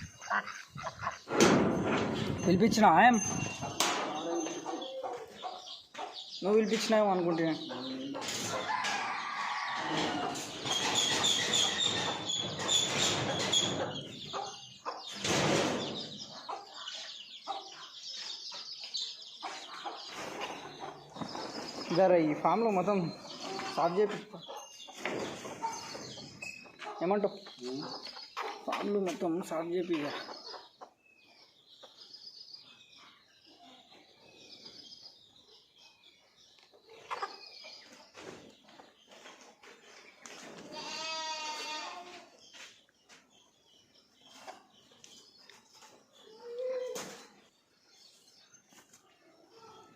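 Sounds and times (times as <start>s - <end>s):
chickens clucking: 0.0s - 40.8s, 41.5s - 49.9s.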